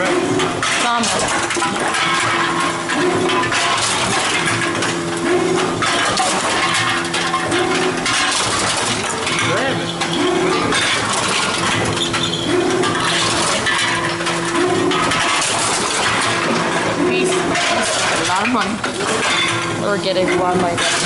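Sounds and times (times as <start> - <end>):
containers clattering and clinking: 0.0 - 21.0
vending machine motor hum: 0.0 - 21.0.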